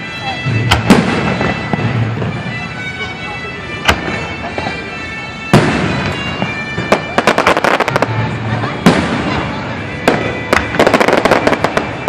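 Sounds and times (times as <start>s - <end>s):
fireworks bangs: 0.2s - 3.1s, 3.7s - 12.0s.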